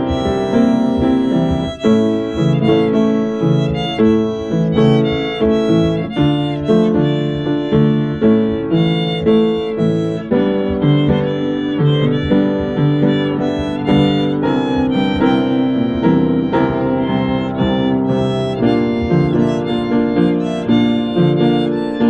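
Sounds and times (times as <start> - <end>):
piano chords: 0.0 - 22.0
violin playing pop melody: 0.0 - 22.0.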